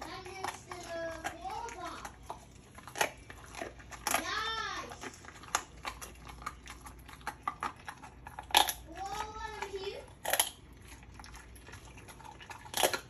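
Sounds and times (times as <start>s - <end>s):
dog mouthing raw chicken: 0.0s - 13.0s.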